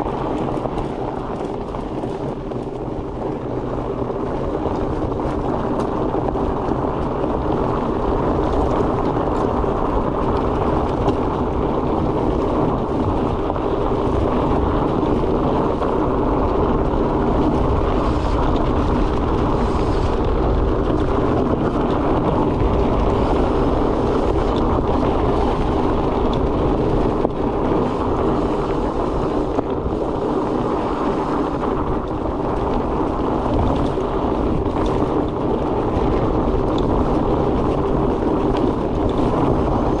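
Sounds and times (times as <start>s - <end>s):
bike tyres rumbling on dirt: 0.0s - 40.0s
wind rushing over microphone: 0.0s - 40.0s.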